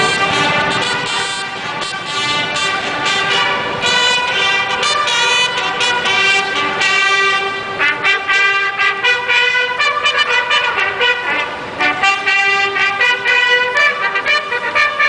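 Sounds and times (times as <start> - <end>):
military bugles playing a march: 0.0 - 15.0.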